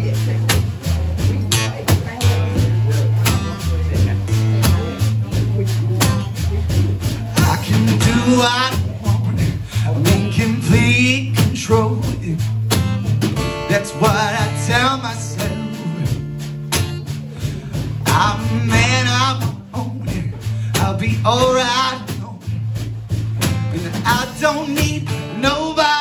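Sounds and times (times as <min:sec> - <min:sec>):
man singing: 0:00.0 - 0:16.5, 0:17.1 - 0:22.9, 0:23.5 - 0:26.0
acoustic guitar: 0:00.0 - 0:26.0
drum kit played with sticks: 0:00.0 - 0:26.0.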